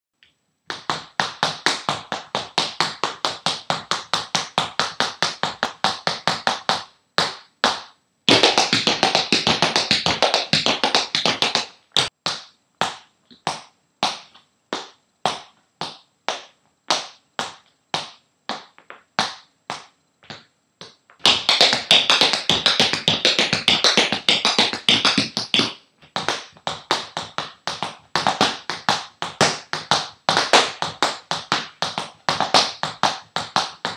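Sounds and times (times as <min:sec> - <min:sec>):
tap shoes on hardwood floor: 0:00.7 - 0:33.9.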